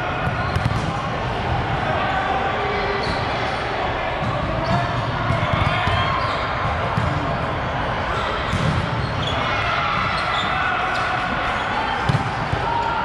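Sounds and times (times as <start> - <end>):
players talking and calling: 0.0 - 13.0.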